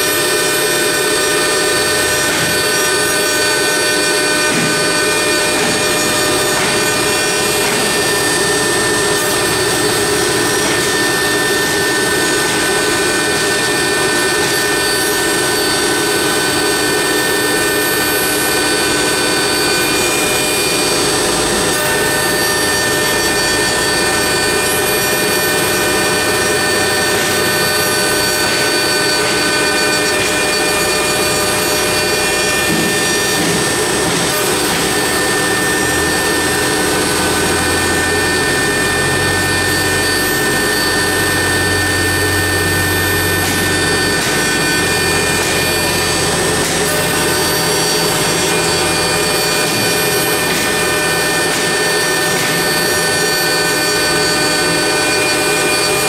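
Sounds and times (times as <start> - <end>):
bit cutting wood: 0.0 - 56.0
router spindle whining: 0.0 - 56.0.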